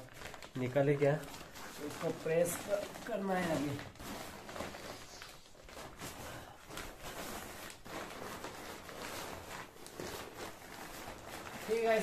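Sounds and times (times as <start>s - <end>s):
nylon fabric rustling: 0.0s - 12.0s.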